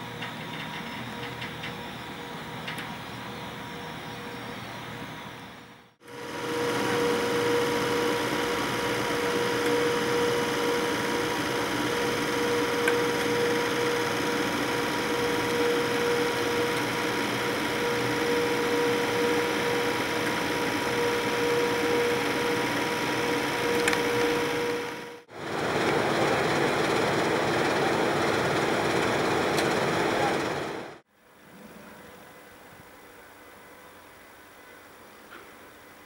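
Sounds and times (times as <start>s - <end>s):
electric locomotive humming: 0.0s - 36.0s.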